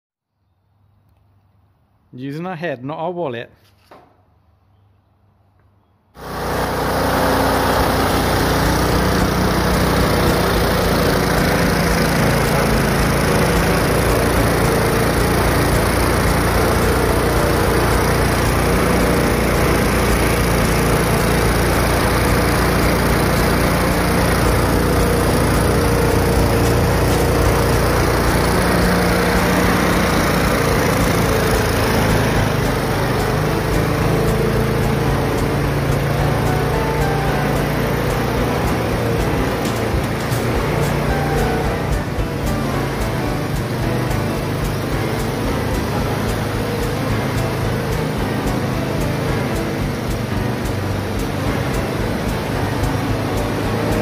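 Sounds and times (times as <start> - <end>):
lawn mower engine running: 6.2 - 54.0.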